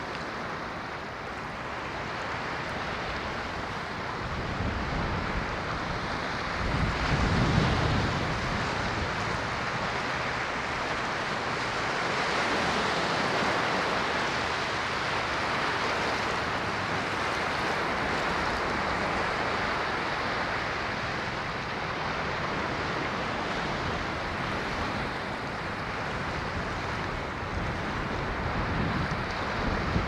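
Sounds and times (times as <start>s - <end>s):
ocean waves washing on shore: 0.0s - 30.0s.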